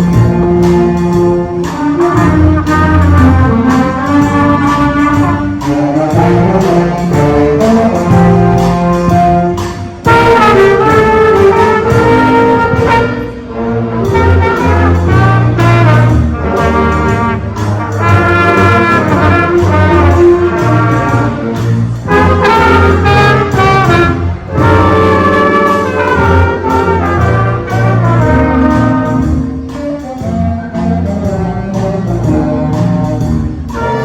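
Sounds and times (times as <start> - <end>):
school band playing: 0.0 - 34.0
trumpets and trombones chords: 0.0 - 34.0.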